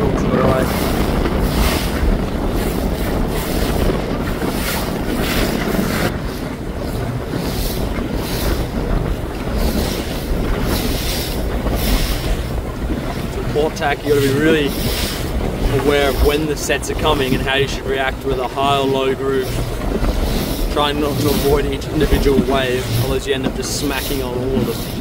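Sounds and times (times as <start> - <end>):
water rushing and splashing: 0.0 - 25.0
wind buffeting microphone: 0.0 - 25.0.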